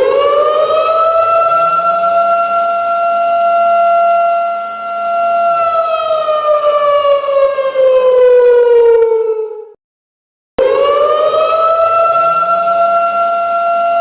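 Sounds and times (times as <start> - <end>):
siren tone: 0.0 - 9.8, 10.6 - 14.0.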